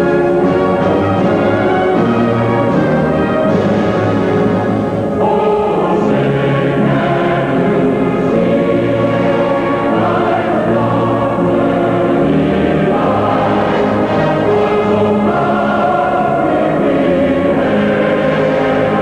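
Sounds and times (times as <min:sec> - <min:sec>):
choir singing sustained chords: 0:00.0 - 0:19.0
orchestra: 0:00.0 - 0:19.0.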